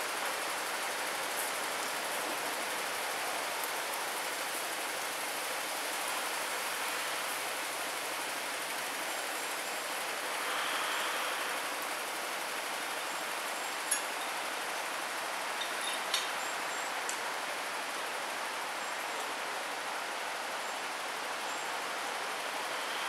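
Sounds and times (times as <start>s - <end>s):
light rain falling: 0.0s - 23.0s.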